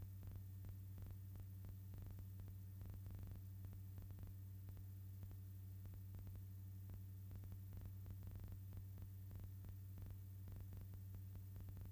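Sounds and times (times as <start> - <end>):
faint low hum: 0.0 - 11.9.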